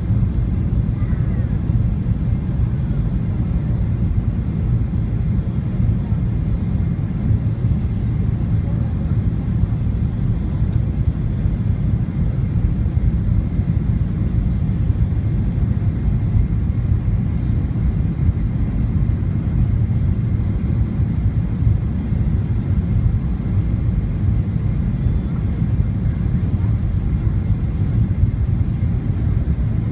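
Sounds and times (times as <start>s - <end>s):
jet engine and airflow rumble: 0.0s - 29.9s.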